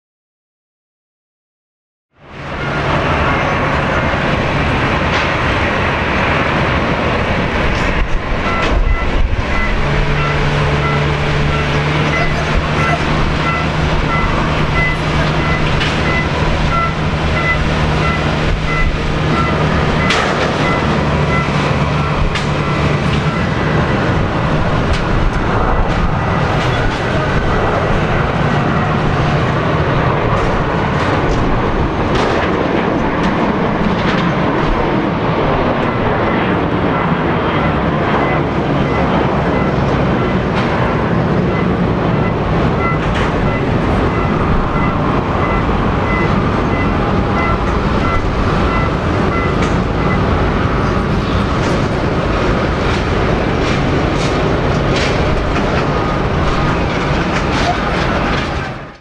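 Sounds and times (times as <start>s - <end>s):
jet engines at takeoff: 2.1s - 59.0s.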